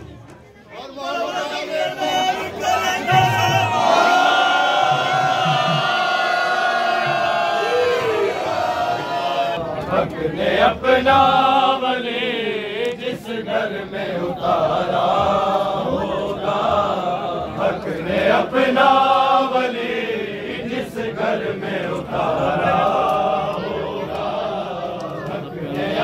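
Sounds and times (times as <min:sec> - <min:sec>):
men chanting in unison: 0:01.0 - 0:26.0.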